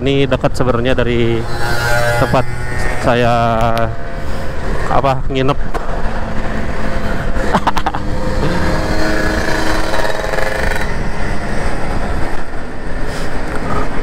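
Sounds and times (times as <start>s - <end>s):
motorcycle engine accelerating: 1.0s - 13.9s
wind on microphone: 1.3s - 14.0s.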